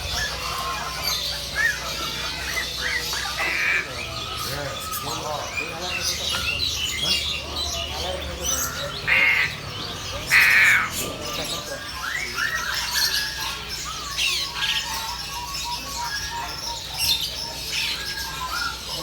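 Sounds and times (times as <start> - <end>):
birds chirping and whistling: 0.0 - 19.0
loud harsh bird squawks: 0.0 - 19.0.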